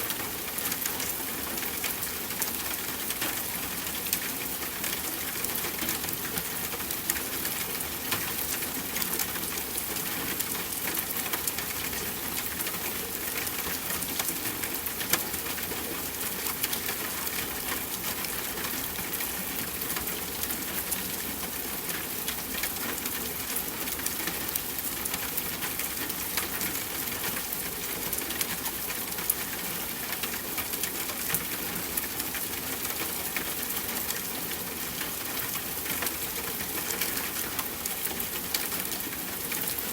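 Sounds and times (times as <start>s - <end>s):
raindrops ticking on surface: 0.0s - 39.9s
steady rain falling: 0.0s - 39.9s.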